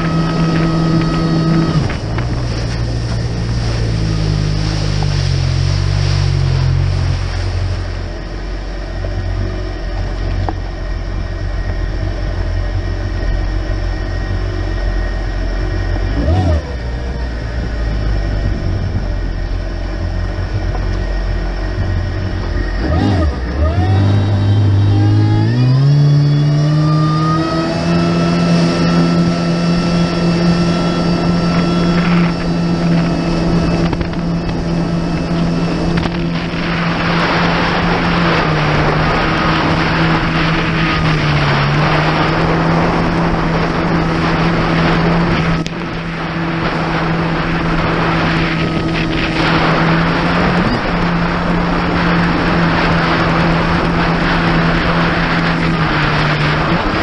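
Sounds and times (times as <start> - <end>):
jet ski engine accelerating: 0.0 - 57.0.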